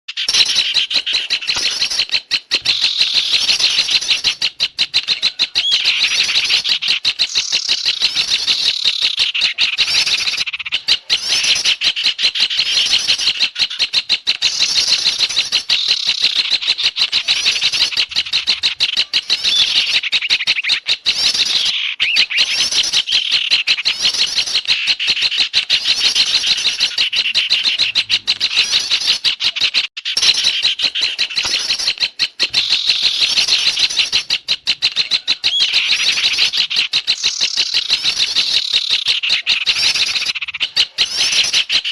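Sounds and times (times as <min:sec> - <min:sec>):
many songbirds chattering: 0:00.1 - 0:41.9.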